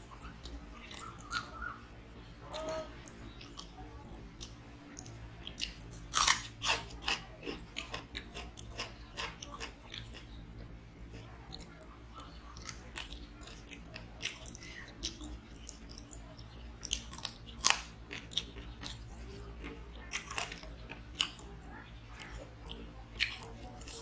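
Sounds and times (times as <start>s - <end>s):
person chewing: 0.0s - 1.7s, 2.5s - 24.0s
low steady hum: 0.0s - 24.0s.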